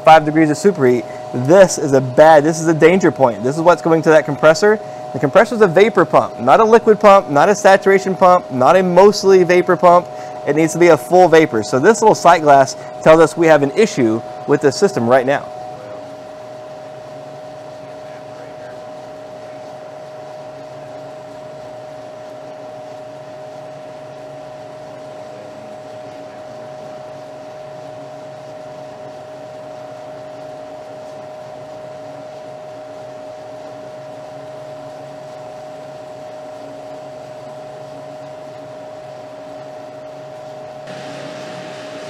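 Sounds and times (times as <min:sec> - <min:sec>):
fan and compressor hum: 0:00.0 - 0:42.0
steady whine: 0:00.0 - 0:42.0.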